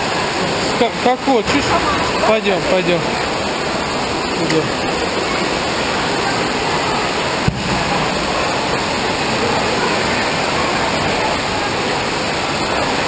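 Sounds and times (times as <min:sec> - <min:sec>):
running water echoing indoors: 0:00.0 - 0:13.0.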